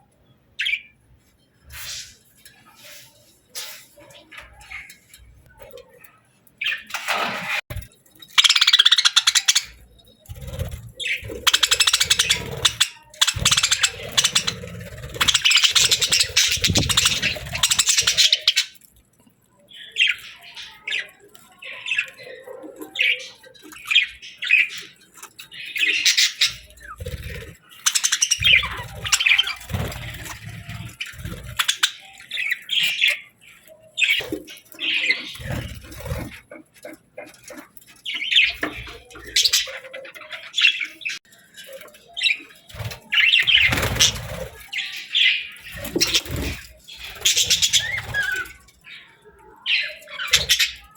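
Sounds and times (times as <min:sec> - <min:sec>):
budgerigars chirping and warbling: 0:07.7 - 0:18.9, 0:19.7 - 0:50.9.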